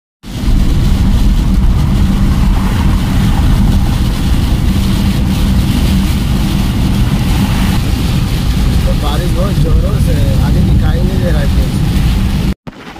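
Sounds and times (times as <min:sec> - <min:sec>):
tyre noise on wet road: 0:00.2 - 0:12.9
car engine hum: 0:00.3 - 0:12.6.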